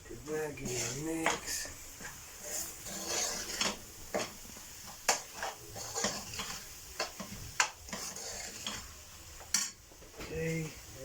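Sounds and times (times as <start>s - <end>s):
food sizzling in a pan: 0.0s - 11.0s
spoon stirring in a pan: 0.3s - 10.2s.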